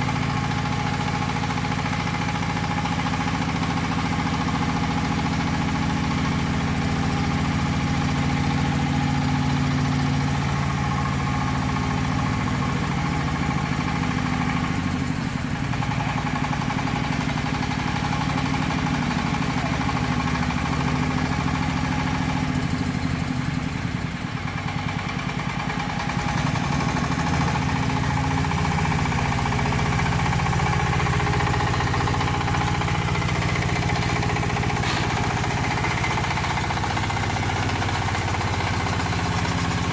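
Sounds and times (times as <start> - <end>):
mini tractor engine running: 0.0 - 39.9.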